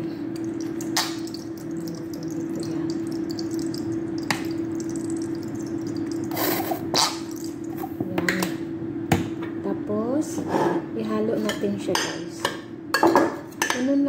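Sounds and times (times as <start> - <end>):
steady hum: 0.0 - 13.5.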